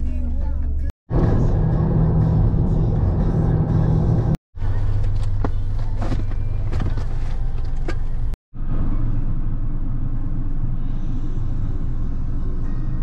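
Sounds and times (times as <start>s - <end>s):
car engine and road noise rumble: 0.0s - 13.0s.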